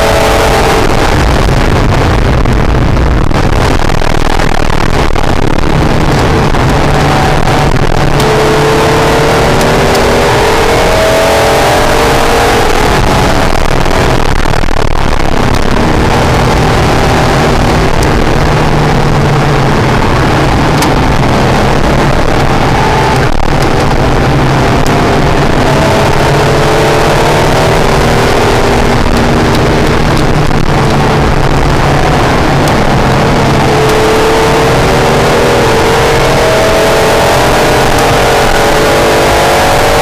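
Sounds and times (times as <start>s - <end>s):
car engine revving from inside cabin: 0.0s - 2.2s, 5.6s - 14.2s, 15.4s - 40.0s.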